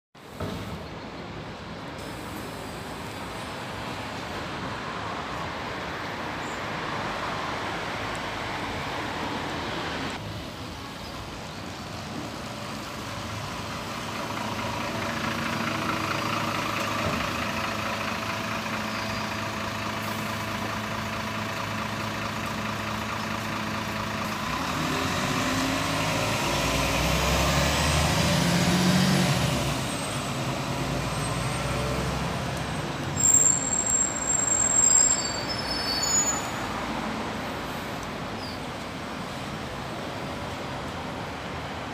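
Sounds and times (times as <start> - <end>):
bus diesel engine: 0.2 - 41.9
passing traffic: 0.2 - 41.9.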